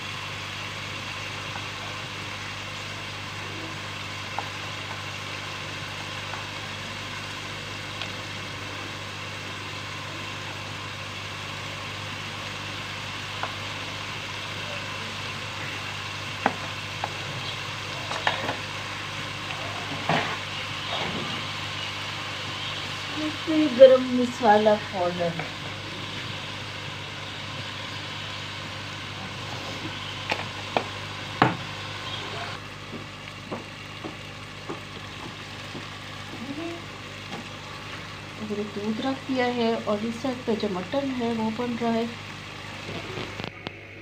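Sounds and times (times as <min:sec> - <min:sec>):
meat sizzling in a pot: 0:00.0 - 0:44.0.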